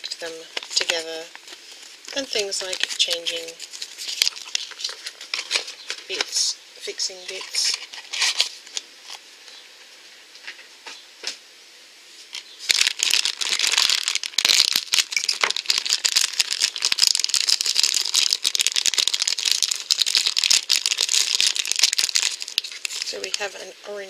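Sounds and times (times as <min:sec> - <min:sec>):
plastic bag crinkling: 0:00.0 - 0:06.4, 0:07.1 - 0:09.2, 0:12.4 - 0:23.6.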